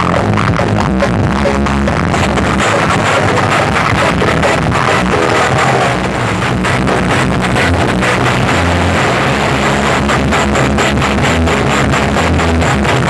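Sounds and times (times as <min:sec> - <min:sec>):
loud bass-heavy music: 0:00.0 - 0:13.0.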